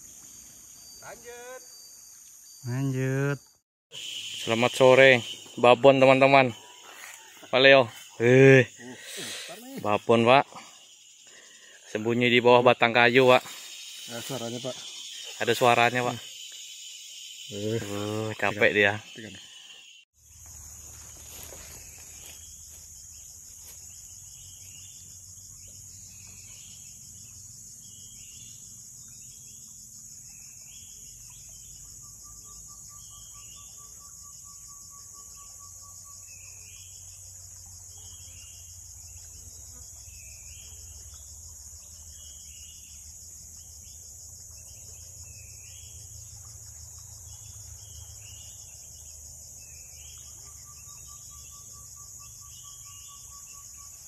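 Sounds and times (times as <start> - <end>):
insect chirps: 0.0 - 54.0
insects buzzing: 0.0 - 54.0.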